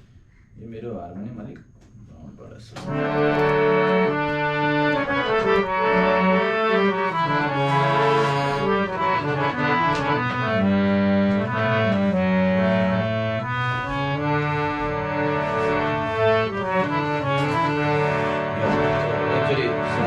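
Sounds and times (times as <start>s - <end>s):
harmonium playing: 2.8s - 20.0s.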